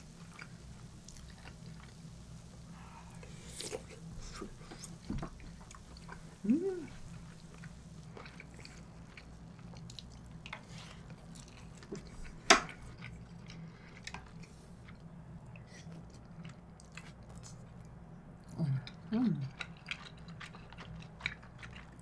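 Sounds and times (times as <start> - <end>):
steady low hum: 0.0 - 22.0
person chewing: 3.2 - 22.0.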